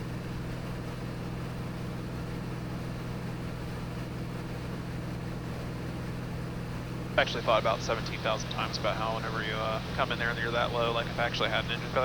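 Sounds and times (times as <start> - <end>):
airplane engine drone in cabin: 0.0 - 12.0.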